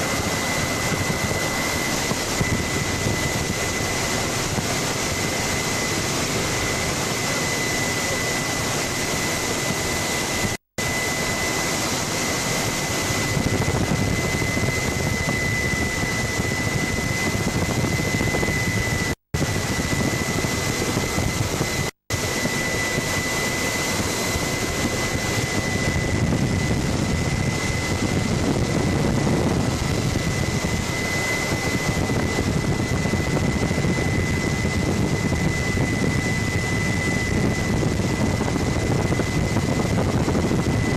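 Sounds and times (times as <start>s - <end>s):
constant high-pitched tone: 0.0s - 40.9s
helicopter noise from aboard: 0.0s - 40.9s.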